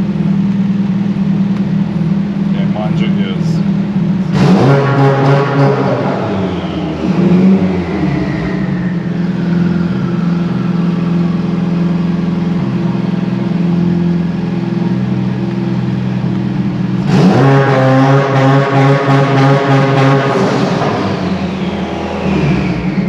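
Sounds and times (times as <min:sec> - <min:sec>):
car engine revving: 0:00.9 - 0:23.0.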